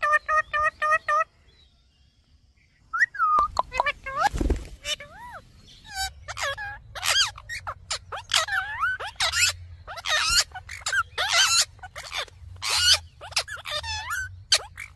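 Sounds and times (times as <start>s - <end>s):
parakeets chattering: 0.0s - 1.3s, 3.4s - 14.9s.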